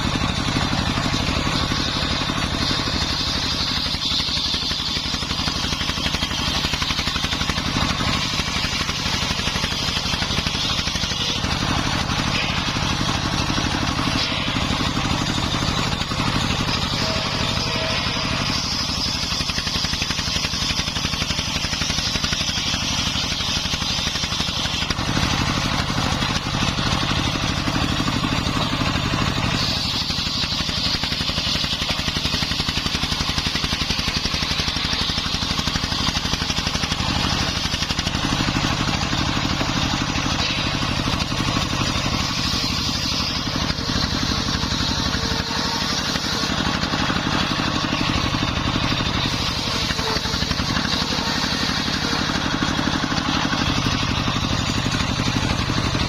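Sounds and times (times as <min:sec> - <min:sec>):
circular saw blade ripping wood: 0:00.0 - 0:56.0
diesel engine running under load: 0:00.0 - 0:56.0.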